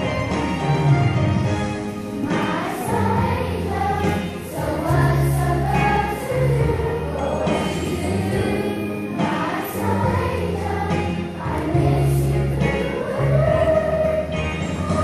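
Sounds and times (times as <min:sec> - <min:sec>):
instrumental accompaniment: 0:00.0 - 0:15.0
children's choir singing: 0:01.8 - 0:15.0.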